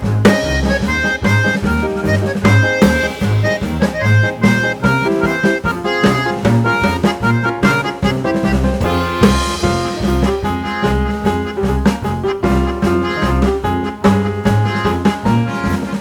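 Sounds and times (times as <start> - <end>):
instrumental music with drum beat: 0.0 - 16.0.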